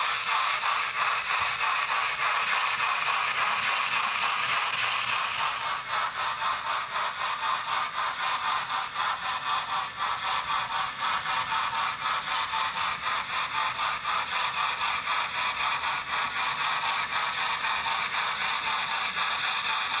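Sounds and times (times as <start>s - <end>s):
steam locomotive exhaust chuffs: 0.0s - 20.0s.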